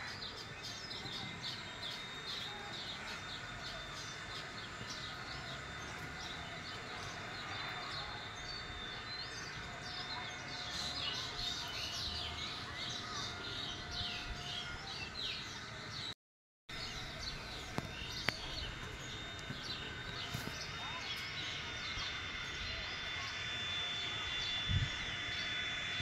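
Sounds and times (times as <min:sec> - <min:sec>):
small birds chirping: 0:00.0 - 0:16.1, 0:16.7 - 0:26.0.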